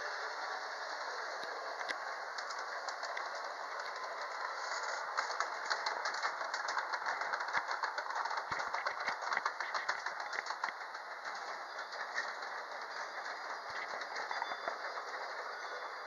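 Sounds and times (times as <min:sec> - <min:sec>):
model train wheels clattering: 0:00.0 - 0:16.0
steady rushing: 0:01.0 - 0:16.0.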